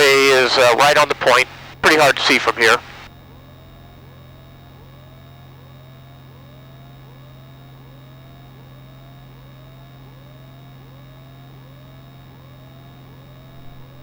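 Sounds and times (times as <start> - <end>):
airplane engine and propeller drone: 0.0 - 14.0.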